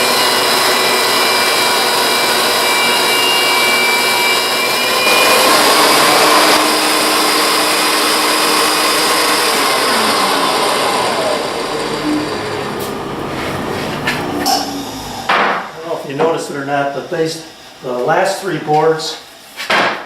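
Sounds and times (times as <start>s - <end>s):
motor winding down whine: 0.0s - 17.8s
jointer cutting boards: 0.0s - 20.0s.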